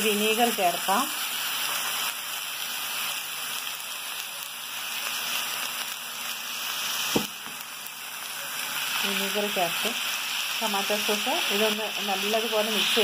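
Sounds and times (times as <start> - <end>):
noodles sizzling in a pan: 0.0 - 13.0.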